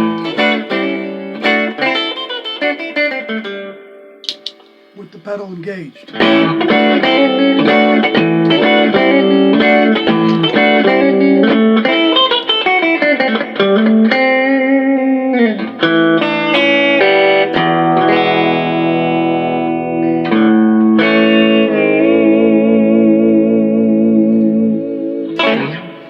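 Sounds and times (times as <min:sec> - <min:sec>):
electric guitar riff: 0:00.0 - 0:26.0.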